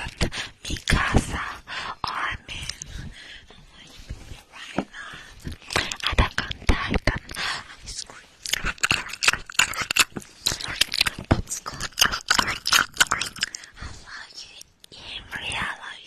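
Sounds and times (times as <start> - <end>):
mouth clicks and crackles: 0.0 - 3.0, 5.4 - 15.8.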